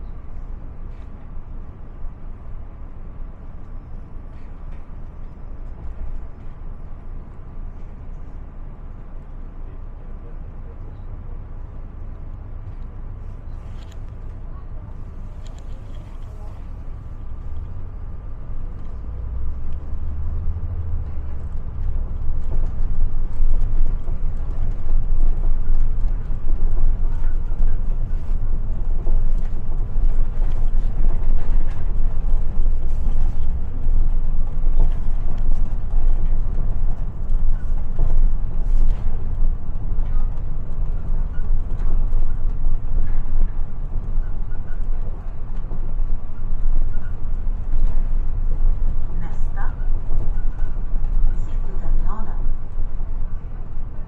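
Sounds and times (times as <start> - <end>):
bus drivetrain and tyres rumbling: 0.0 - 54.0.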